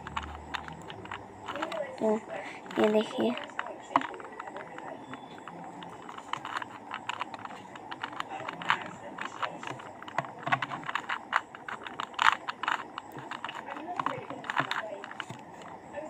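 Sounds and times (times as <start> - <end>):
puzzle cube plastic clicks: 0.0 - 15.9.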